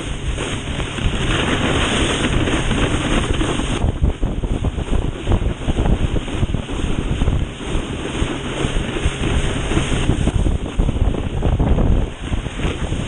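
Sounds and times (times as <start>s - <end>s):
water rushing under board: 0.0s - 13.0s
wind buffeting microphone: 0.0s - 13.0s.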